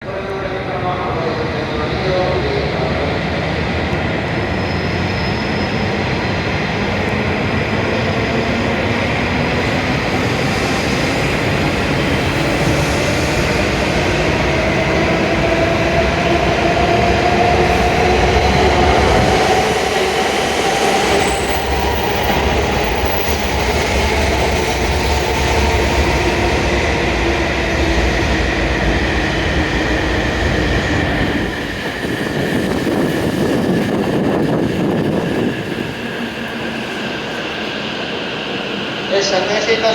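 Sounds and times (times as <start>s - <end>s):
train wheels rumbling: 0.2s - 39.5s
train whining tones: 1.2s - 39.9s.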